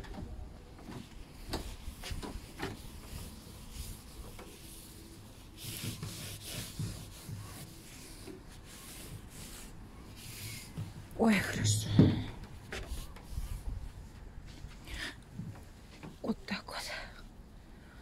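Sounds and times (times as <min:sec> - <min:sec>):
rubbing and scraping: 0:00.0 - 0:16.3.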